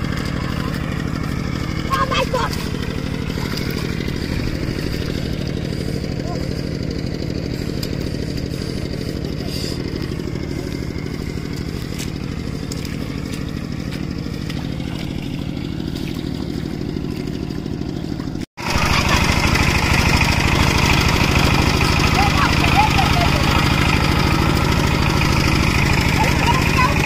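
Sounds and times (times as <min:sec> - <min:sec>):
two-wheel tractor engine running: 0:00.0 - 0:27.0.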